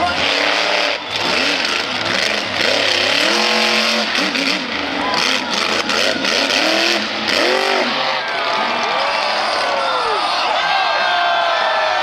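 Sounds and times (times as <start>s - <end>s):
monster truck engine revving: 0.0s - 10.6s
steady background roar: 0.0s - 11.1s.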